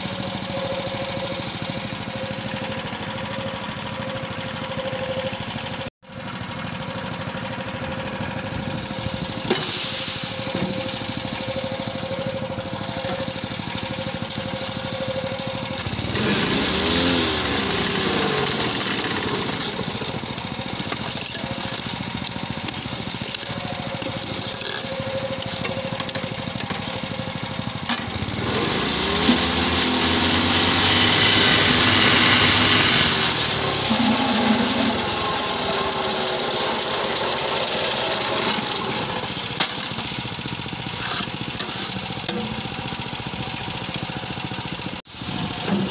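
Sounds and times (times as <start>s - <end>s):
small petrol engine running: 0.0s - 45.9s
machine vibrating with harsh rattle: 6.6s - 45.9s.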